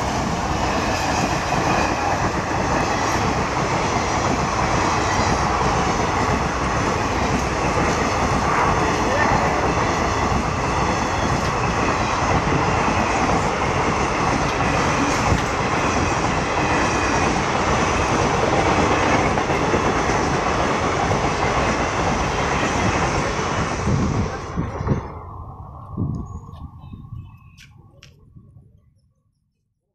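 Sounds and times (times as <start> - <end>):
train wheels clattering on rails: 0.0 - 25.2.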